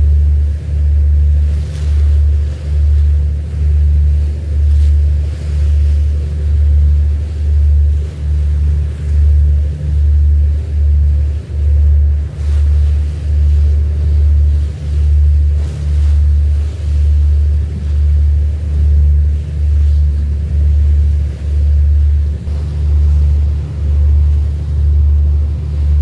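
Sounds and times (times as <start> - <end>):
boat engine droning: 0.0 - 26.0
water and wind hiss: 0.0 - 26.0.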